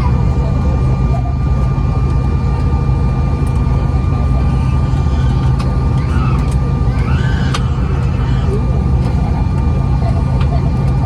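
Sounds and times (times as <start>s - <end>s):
jet cabin low rumble: 0.0s - 11.0s.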